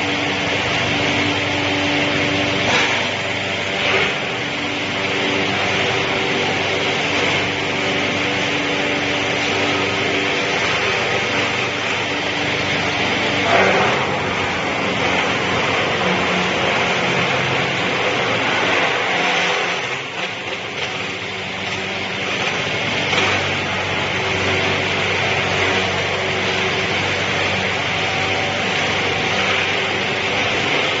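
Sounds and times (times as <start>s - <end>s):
wood chipper motor hum: 0.0s - 31.0s.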